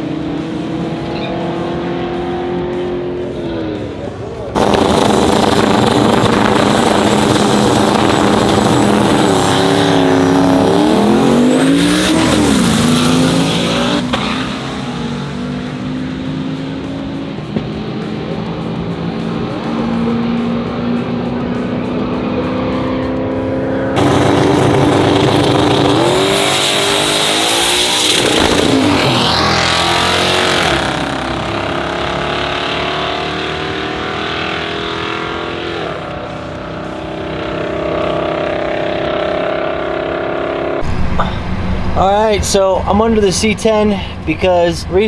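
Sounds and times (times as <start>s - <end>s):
car engines running: 0.0s - 45.0s.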